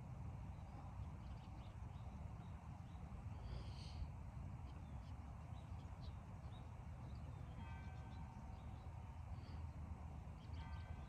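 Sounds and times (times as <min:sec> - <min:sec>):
faint bird chirps: 0:00.6 - 0:09.8.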